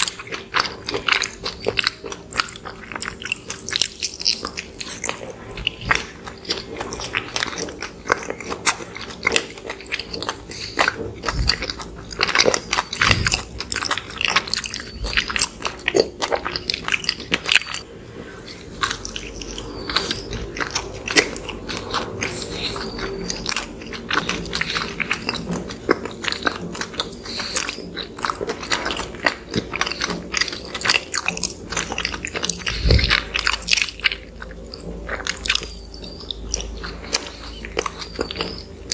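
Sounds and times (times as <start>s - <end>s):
chewing soft pastry: 0.0s - 38.9s.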